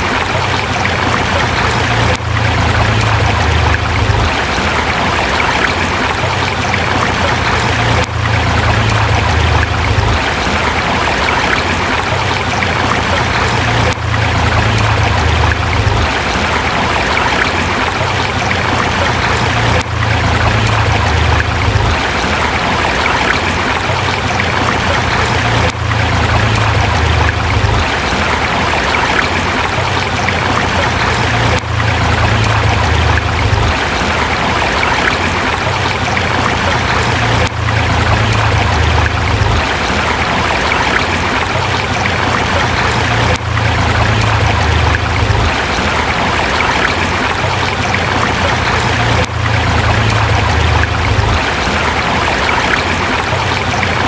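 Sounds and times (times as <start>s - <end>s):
low water rumble: 0.0s - 54.0s
river water rushing over rocks: 0.0s - 54.0s.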